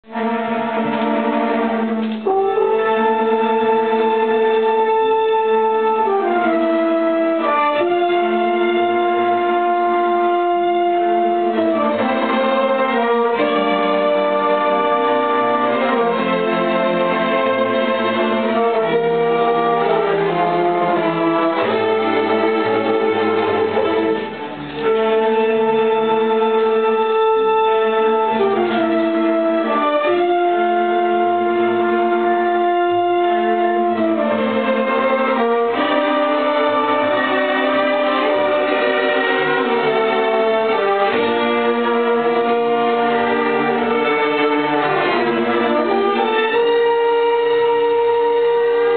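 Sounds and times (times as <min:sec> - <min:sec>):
orchestra sustained string chords: 0:00.0 - 0:48.9.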